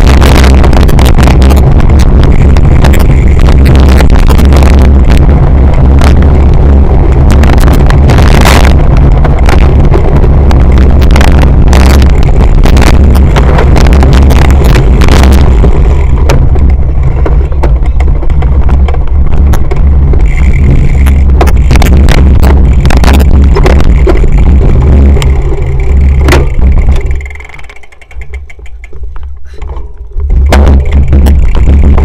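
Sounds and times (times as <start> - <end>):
wind rumble on camera: 0.0 - 32.0.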